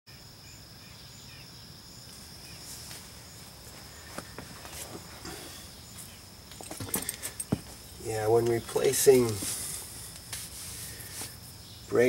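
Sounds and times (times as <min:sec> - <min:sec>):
insects trilling: 0:00.1 - 0:12.0.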